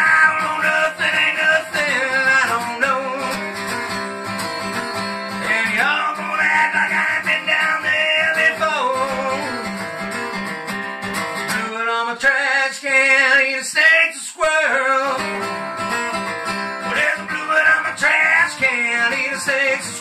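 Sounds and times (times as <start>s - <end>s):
man singing: 0.0s - 9.9s, 11.5s - 20.0s
strummed acoustic guitar: 0.0s - 20.0s.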